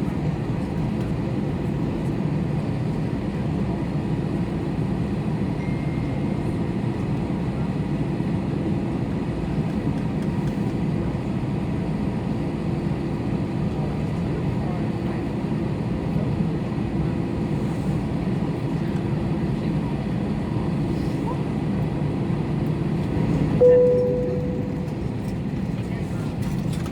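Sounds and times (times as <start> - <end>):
low rumble inside plane cabin: 0.0 - 26.9.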